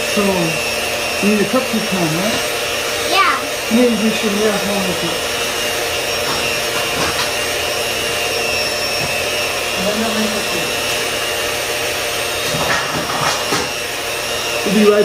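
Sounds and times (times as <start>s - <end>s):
electric hand mixer whirring: 0.0s - 15.0s.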